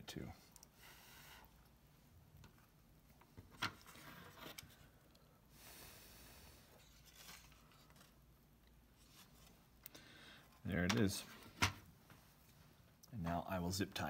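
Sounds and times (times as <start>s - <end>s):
soft hiss: 0.0s - 14.0s.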